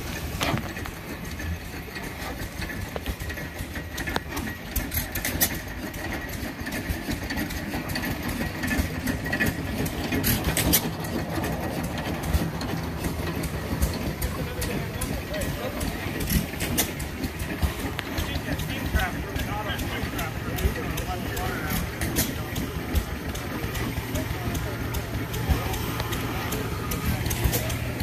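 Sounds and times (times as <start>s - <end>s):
gear clicks and knocks: 0.0s - 28.0s
steam engine clattering: 0.0s - 28.0s.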